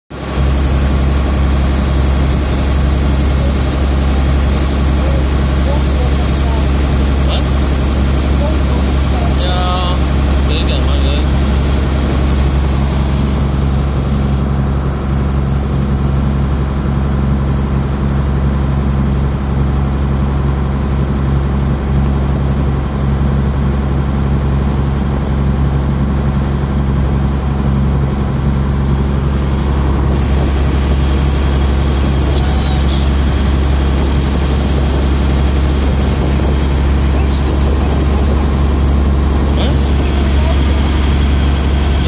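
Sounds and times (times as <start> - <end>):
boat engine droning: 0.1 - 42.0.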